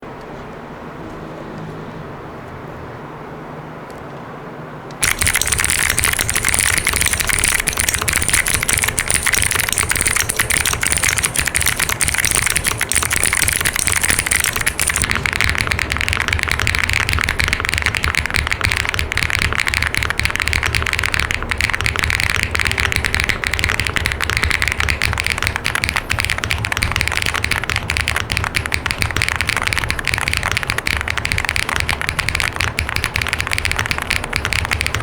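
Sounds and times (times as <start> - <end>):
steady hum: 4.7 - 35.0
mechanical keyboard typing: 5.0 - 35.0.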